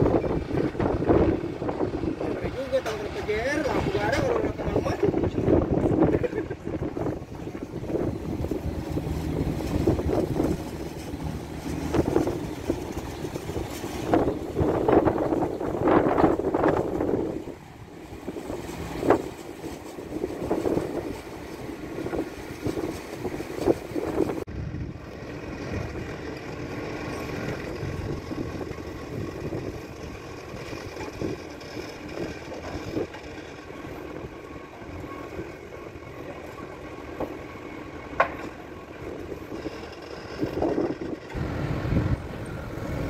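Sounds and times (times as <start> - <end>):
water noise: 0.0 - 40.6
heavy diesel machinery running: 0.0 - 43.0
wind: 0.0 - 43.0.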